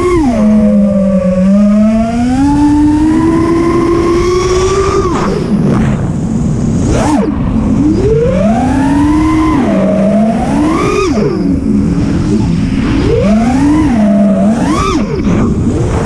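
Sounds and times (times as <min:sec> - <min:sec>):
drone motors whining: 0:00.0 - 0:16.0
wind on microphone: 0:00.0 - 0:16.0.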